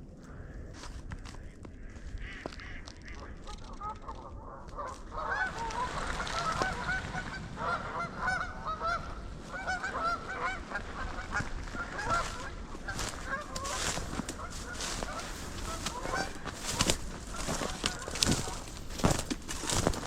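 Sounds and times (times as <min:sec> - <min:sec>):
geese honking: 0:02.2 - 0:20.0.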